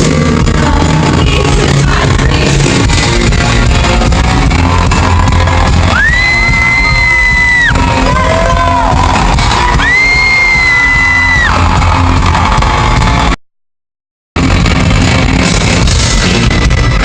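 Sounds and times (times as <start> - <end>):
live pop-rock band: 0.0 - 13.3, 14.4 - 17.0.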